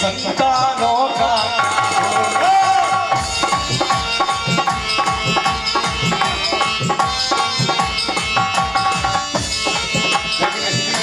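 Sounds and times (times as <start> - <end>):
held melody line: 0.0 - 11.0
hand drum fast rhythm: 0.3 - 11.0.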